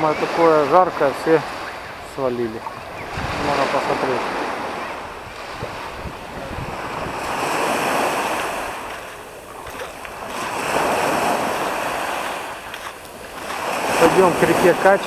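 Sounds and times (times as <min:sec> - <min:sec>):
surf waves breaking: 0:00.0 - 0:15.0.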